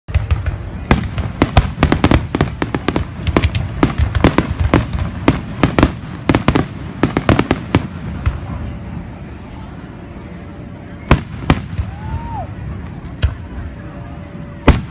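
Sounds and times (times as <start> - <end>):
fireworks banging: 0.1 - 9.0, 11.1 - 14.0, 14.6 - 14.9
low rumble of bursts: 0.1 - 14.9.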